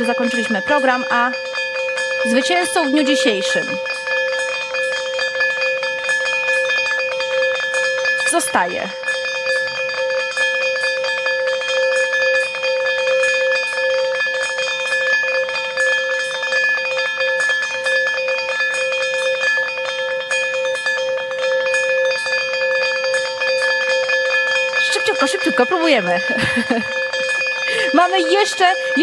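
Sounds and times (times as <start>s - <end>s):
ticking beat: 0.0s - 29.0s.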